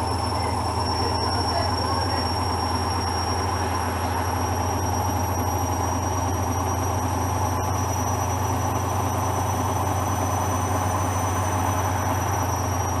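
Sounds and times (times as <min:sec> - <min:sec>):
washing machine spin cycle: 0:00.0 - 0:13.0.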